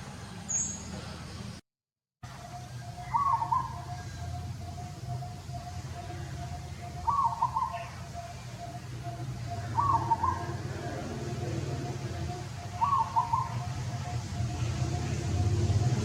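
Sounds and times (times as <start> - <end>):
bird calling: 2.5 - 15.6.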